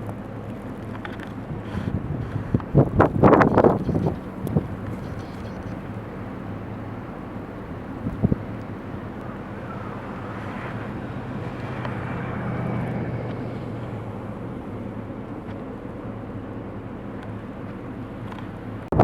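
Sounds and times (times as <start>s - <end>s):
car engine hum: 0.0s - 19.0s
road noise on snow: 0.0s - 19.0s.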